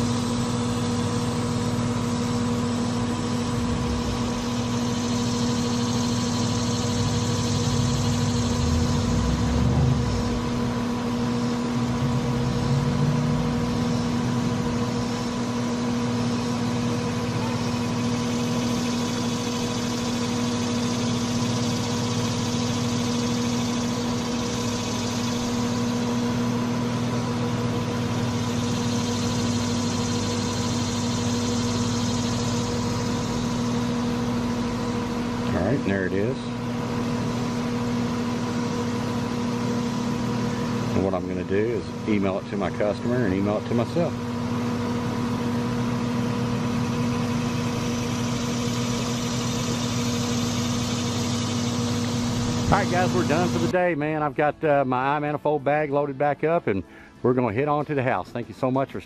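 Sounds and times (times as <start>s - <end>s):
fan rushing: 0.0s - 54.4s
compressor hum: 0.0s - 59.0s.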